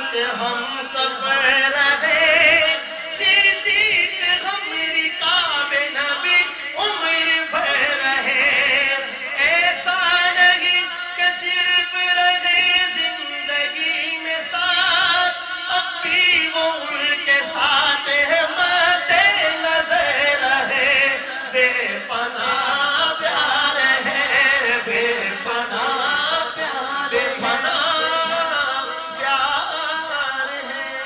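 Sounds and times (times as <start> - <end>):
men chanting unaccompanied: 0.0 - 31.0.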